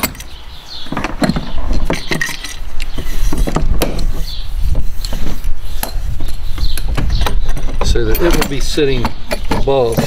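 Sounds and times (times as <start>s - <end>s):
cable and fitting handling noise: 0.0s - 10.0s.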